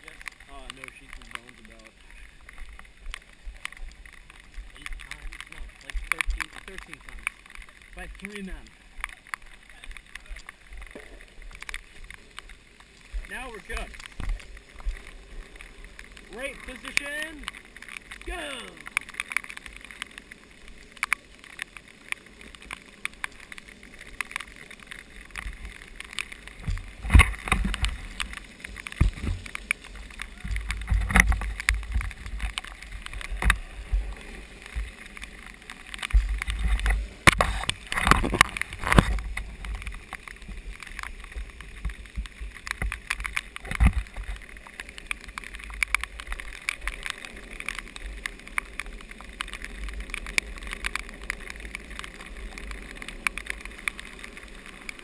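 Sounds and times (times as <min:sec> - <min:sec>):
skateboard rolling over wet pavement: 0:00.0 - 0:55.0.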